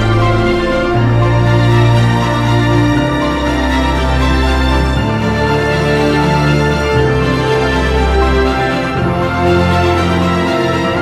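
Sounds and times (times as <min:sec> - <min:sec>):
soundtrack music held chords: 0:00.0 - 0:11.0.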